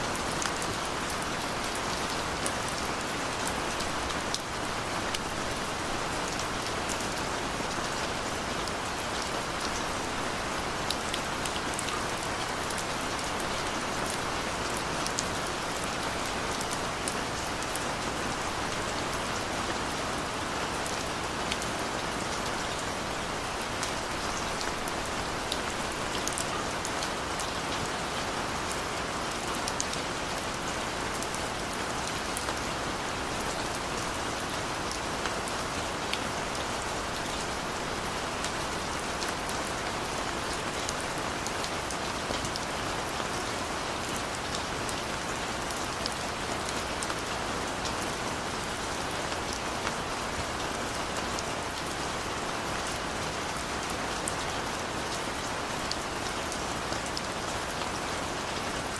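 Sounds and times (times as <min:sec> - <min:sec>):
gentle rain falling: 0:00.0 - 0:58.9.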